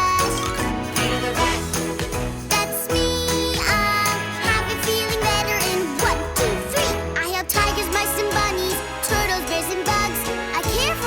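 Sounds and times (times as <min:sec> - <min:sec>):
cartoon music: 0:00.0 - 0:11.0.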